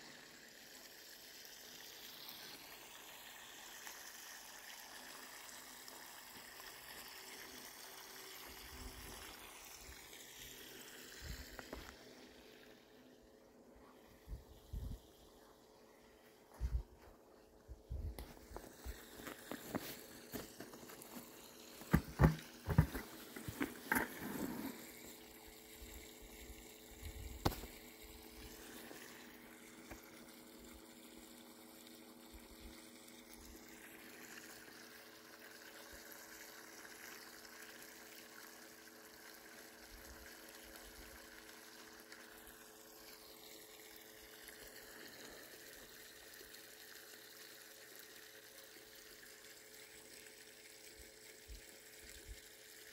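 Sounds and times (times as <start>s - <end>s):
sump pump humming: 0.0s - 52.9s
water trickling: 0.0s - 52.9s.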